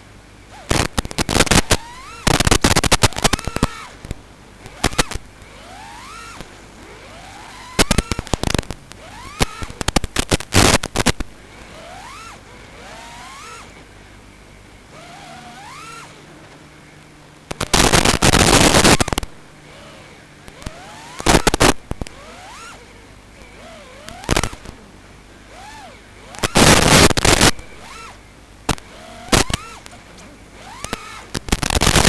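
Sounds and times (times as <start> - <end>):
loud crackling bursts: 0.5 - 13.8, 17.4 - 32.0
small motors revving: 0.5 - 13.9, 14.8 - 16.6, 17.4 - 32.0.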